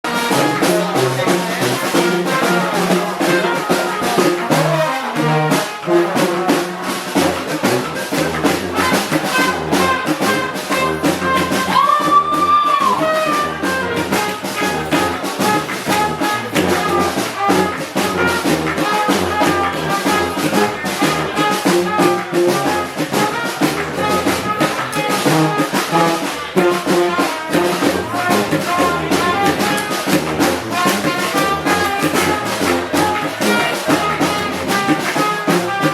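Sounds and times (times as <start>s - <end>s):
brass band playing: 0.0s - 35.9s.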